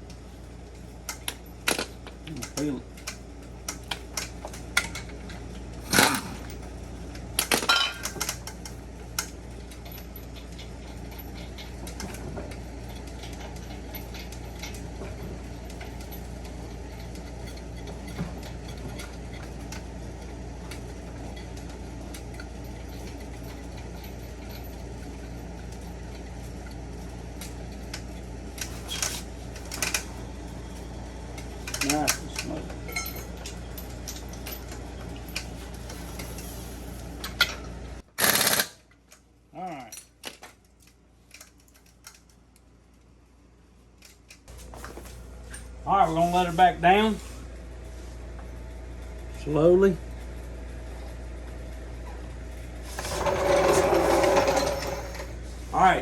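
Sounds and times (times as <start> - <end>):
wheel hub spinning whir: 0.0 - 38.9, 49.4 - 56.0.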